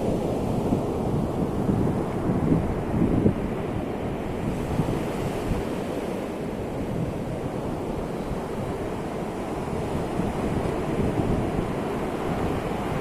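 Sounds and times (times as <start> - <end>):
ocean waves washing: 0.0 - 13.0.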